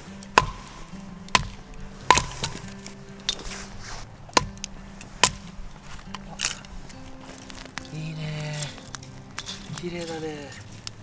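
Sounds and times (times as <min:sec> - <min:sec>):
background music: 0:00.0 - 0:11.0
campfire crackling and popping: 0:00.0 - 0:11.0.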